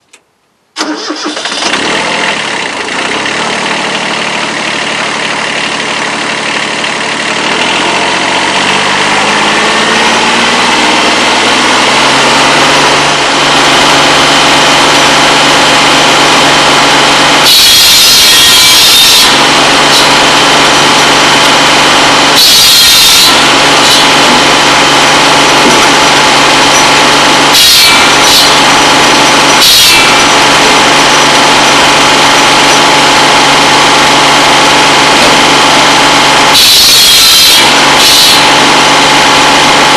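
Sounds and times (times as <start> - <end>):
buzz saw engine drone: 0.8 - 39.9.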